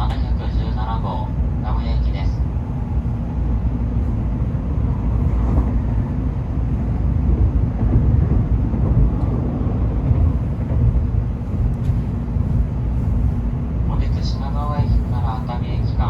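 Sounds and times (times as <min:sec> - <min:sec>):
train running rumble: 0:00.0 - 0:16.0.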